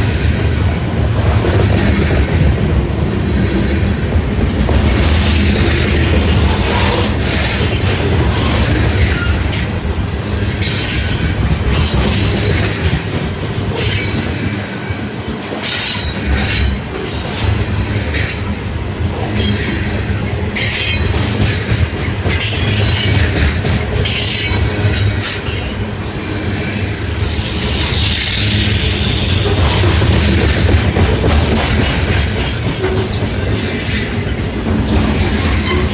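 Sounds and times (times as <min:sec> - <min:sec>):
train cars rumbling on rails: 0:00.0 - 0:35.9.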